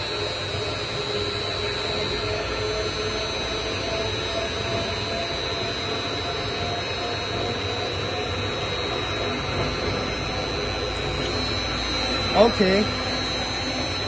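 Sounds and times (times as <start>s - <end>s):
mixer running with high whine: 0.0s - 14.0s.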